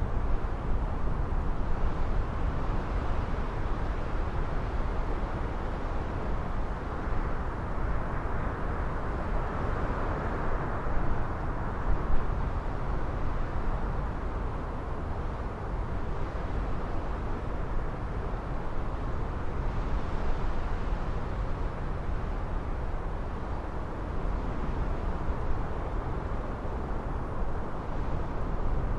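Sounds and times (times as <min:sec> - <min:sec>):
gusty wind on microphone: 0:00.0 - 0:28.9.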